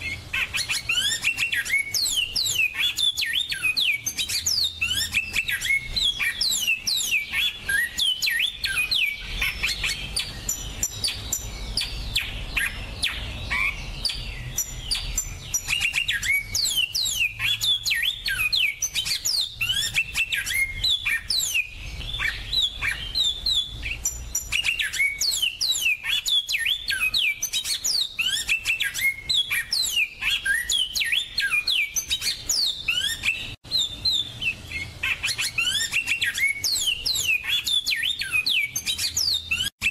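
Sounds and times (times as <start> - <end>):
finches singing: 0.0 - 39.9.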